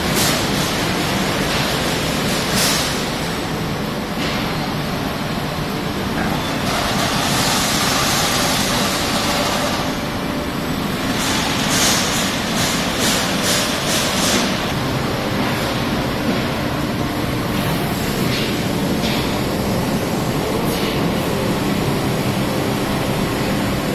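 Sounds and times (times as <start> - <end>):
laser cutting machine running: 0.0 - 23.9.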